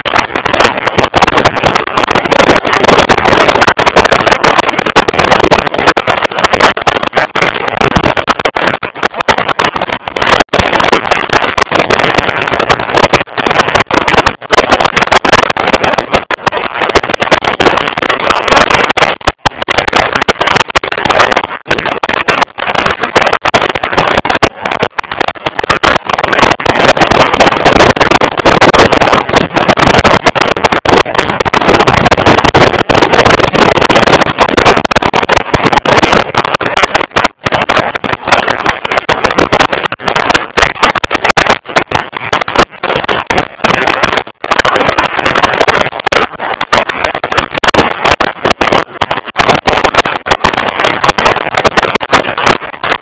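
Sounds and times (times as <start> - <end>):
wind and road rush: 0.0 - 53.0.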